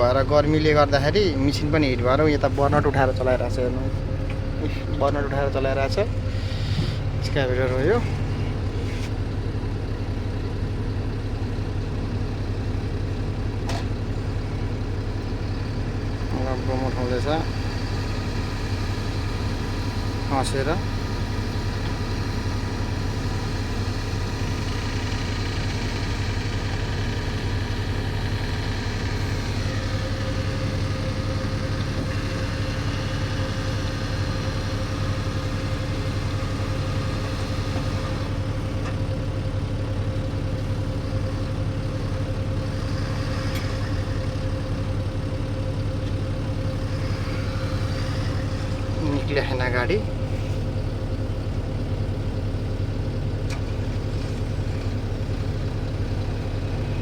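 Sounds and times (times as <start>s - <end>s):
excavator diesel engine humming: 0.0s - 57.0s.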